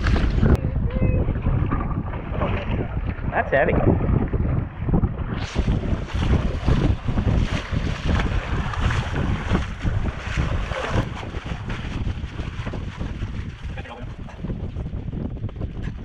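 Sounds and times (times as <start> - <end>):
choppy water washing: 0.0 - 16.0
wind buffeting microphone: 0.0 - 16.0.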